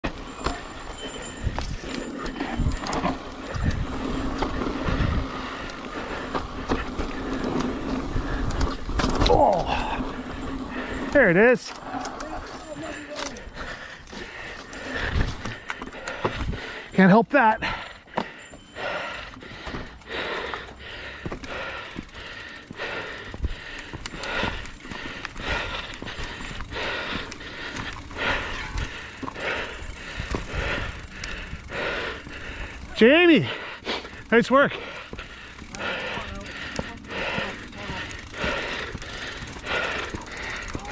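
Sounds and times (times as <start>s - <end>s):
bike rattling and clicking: 0.0s - 40.9s
bike tyres rolling on dirt: 0.0s - 40.9s
heavy rough breathing: 0.0s - 40.9s.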